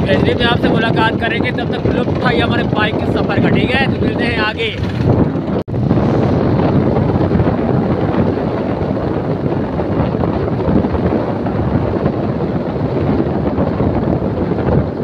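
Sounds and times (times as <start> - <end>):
motorbike engine and road noise: 0.0 - 15.0
wind buffeting microphone: 0.0 - 15.0.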